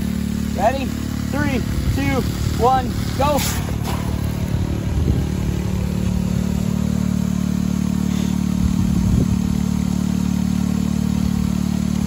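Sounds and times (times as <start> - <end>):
water pump engine running: 0.0 - 12.0
water pumping through hose: 0.0 - 12.0.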